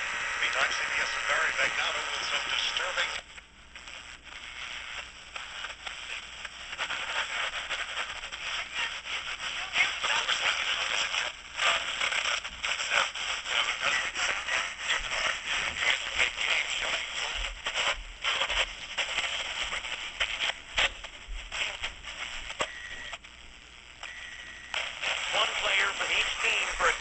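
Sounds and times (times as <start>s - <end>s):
radio static and crackle: 0.0s - 27.0s.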